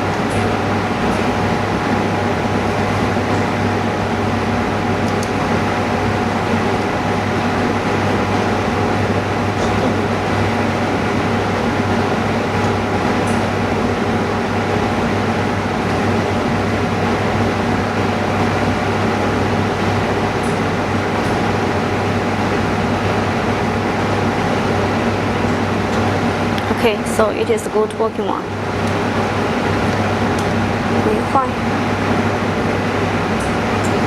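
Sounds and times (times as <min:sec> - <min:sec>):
machinery humming: 0:00.0 - 0:34.0.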